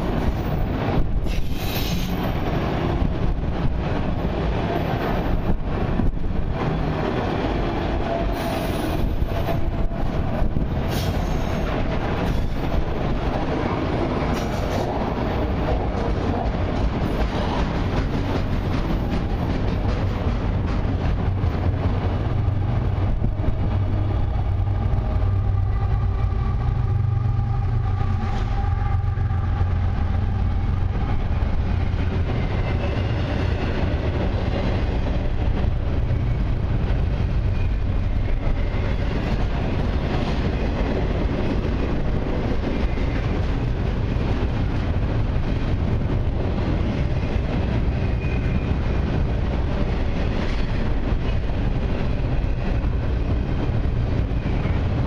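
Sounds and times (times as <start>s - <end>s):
steel wheels rumbling on rails: 0.0s - 55.0s.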